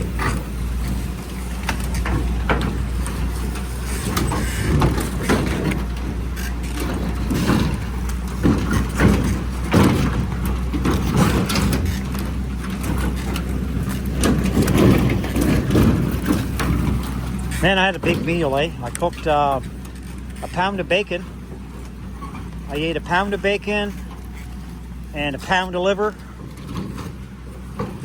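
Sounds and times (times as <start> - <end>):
diesel engine running: 0.0 - 28.0
metal clanks and rattles: 0.0 - 28.0.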